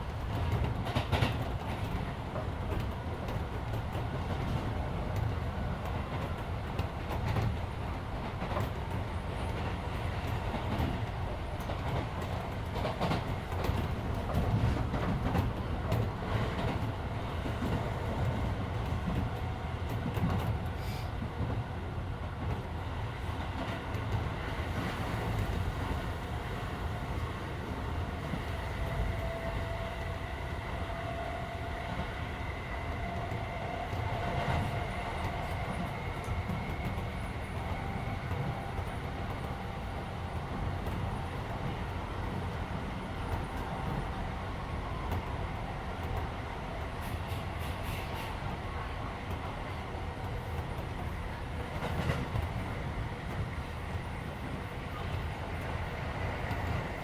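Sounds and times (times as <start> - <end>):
rail joint clicks: 0.0 - 26.1, 27.1 - 57.0
train wheels rumbling on rail: 0.0 - 57.0.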